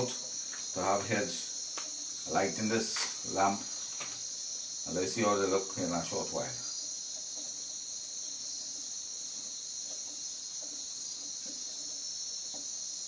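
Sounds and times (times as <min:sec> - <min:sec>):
crickets and insects chirping: 0:00.0 - 0:13.0.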